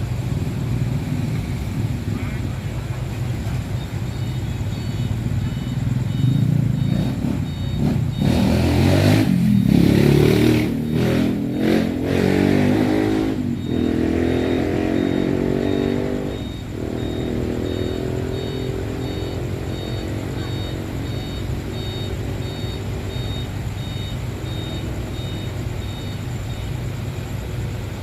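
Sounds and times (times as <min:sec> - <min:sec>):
engines running: 0:00.0 - 0:28.0
heavy vehicle engine passing: 0:00.0 - 0:28.0
faint high beep: 0:02.1 - 0:26.8.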